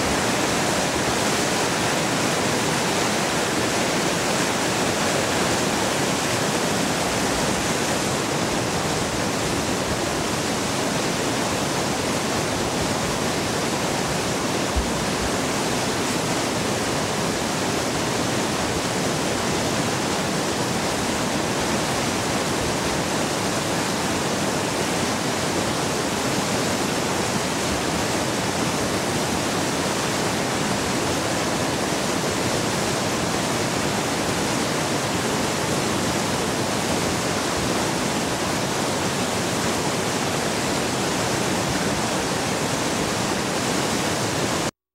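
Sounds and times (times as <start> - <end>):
water rushing through spillway: 0.0 - 44.7.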